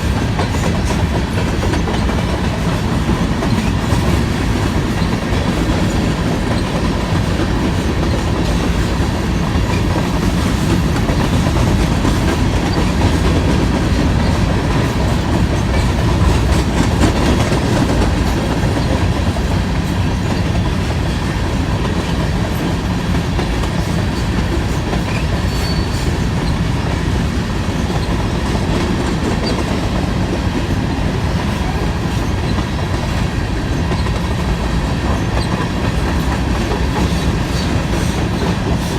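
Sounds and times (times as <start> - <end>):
train rumble: 0.0 - 38.9
train wheels clacking on rail joints: 0.0 - 38.9.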